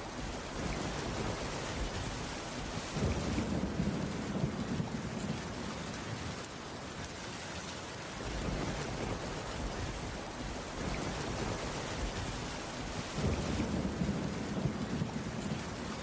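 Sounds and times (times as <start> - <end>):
rain on a wooden roof: 0.0 - 16.0.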